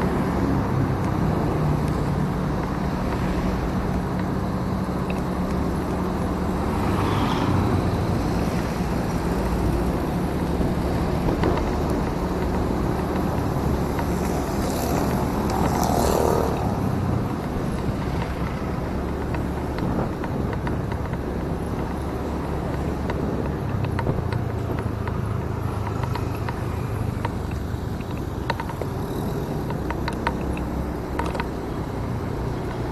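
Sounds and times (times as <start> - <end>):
traffic sound: 0.0 - 32.9
wind and road noise: 0.0 - 32.9.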